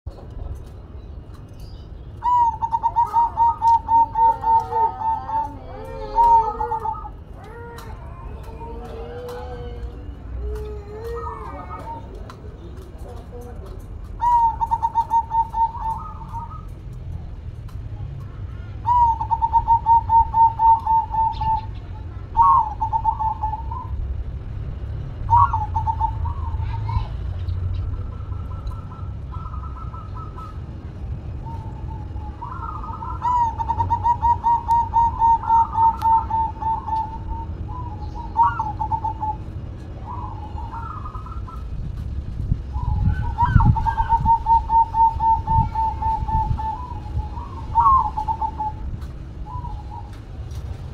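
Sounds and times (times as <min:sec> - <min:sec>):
dove cooing: 0:02.2 - 0:12.3, 0:14.1 - 0:16.8, 0:18.5 - 0:24.0, 0:25.2 - 0:41.8, 0:42.7 - 0:50.6.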